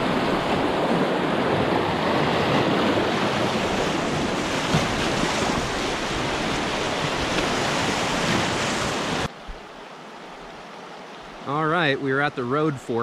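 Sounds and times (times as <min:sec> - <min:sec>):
rushing whitewater: 0:00.0 - 0:13.0
shallow creek flowing: 0:00.0 - 0:13.0.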